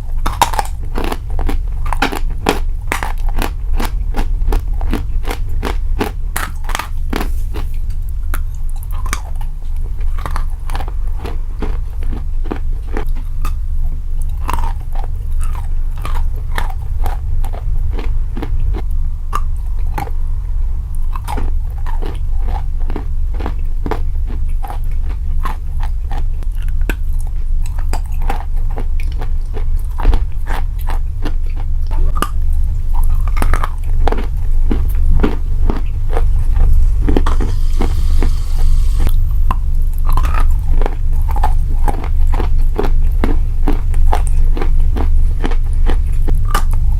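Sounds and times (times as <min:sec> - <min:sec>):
chewing crunchy food: 0:00.0 - 0:46.9
low rumble: 0:00.0 - 0:46.9.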